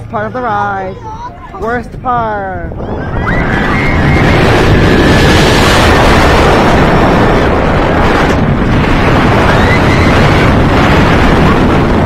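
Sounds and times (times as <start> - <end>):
roller coaster train rumbling: 0.0 - 12.0
wind buffeting microphone: 0.0 - 12.0.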